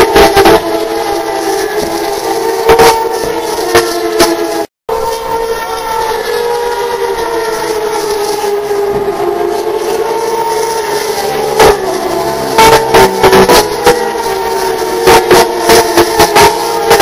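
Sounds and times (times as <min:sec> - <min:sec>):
race car engines: 0:00.0 - 0:17.0.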